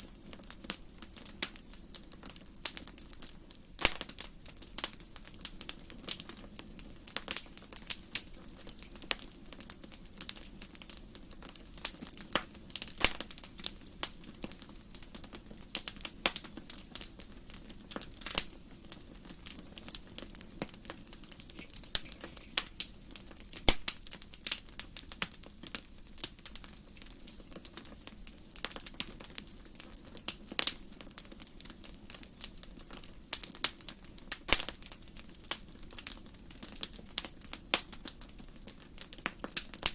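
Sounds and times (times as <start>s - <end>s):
low steady hiss: 0.0s - 39.9s
wood fire crackling and popping: 0.0s - 39.9s.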